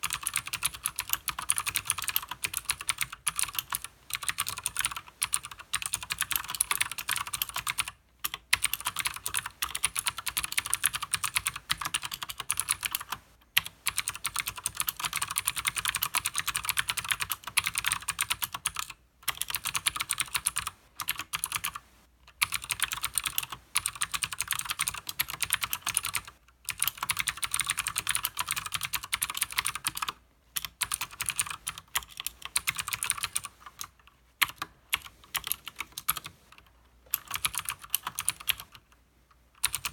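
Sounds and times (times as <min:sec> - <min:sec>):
fast clicky keyboard typing: 0:00.0 - 0:38.9, 0:39.6 - 0:39.9.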